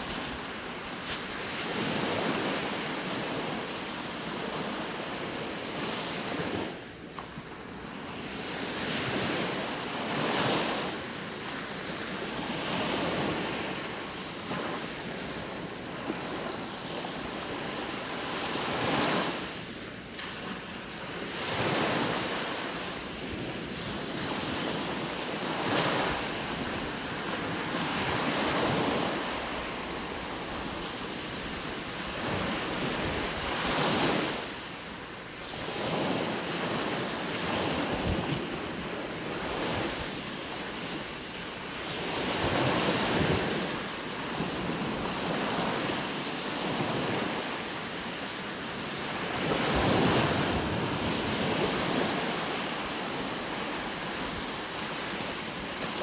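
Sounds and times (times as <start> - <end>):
waves washing up a beach: 0.0 - 56.0.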